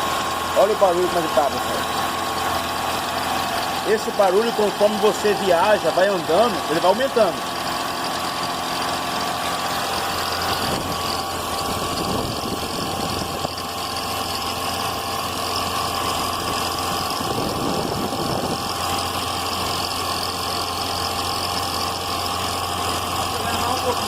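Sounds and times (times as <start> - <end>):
high chirp from belt drive: 0.0 - 24.0.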